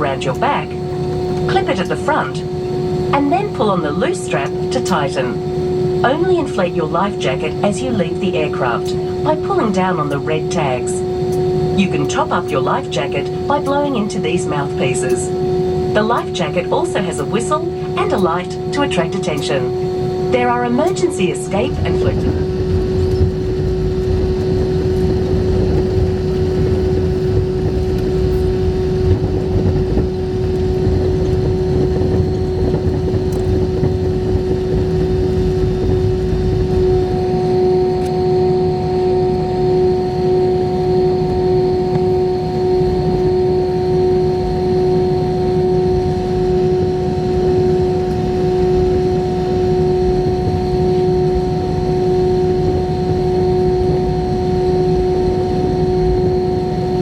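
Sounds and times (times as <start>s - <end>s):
aircraft cabin engine hum: 0.0s - 57.0s
higher hum tone: 0.0s - 57.0s.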